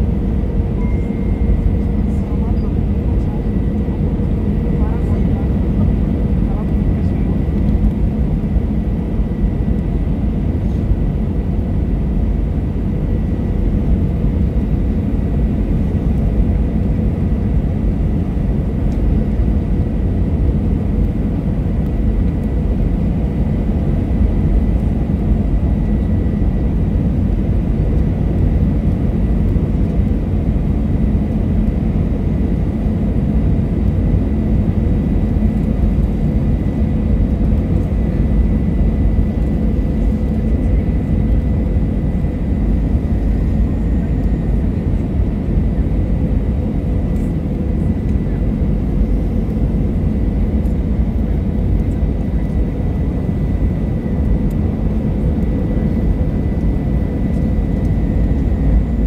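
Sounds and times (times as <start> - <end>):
jet engine rumble in cabin: 0.0 - 59.0.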